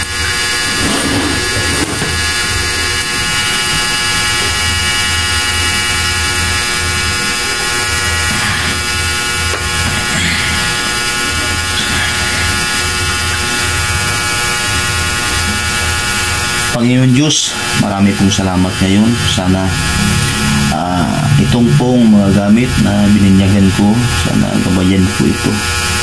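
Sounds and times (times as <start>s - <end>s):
buzzing drone: 0.0s - 26.0s
pulsing low hum: 0.0s - 26.0s.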